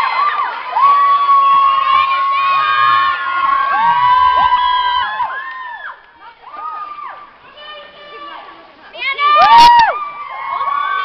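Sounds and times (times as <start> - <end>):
crowd cheering and screaming: 0.0 - 7.4, 9.1 - 11.0.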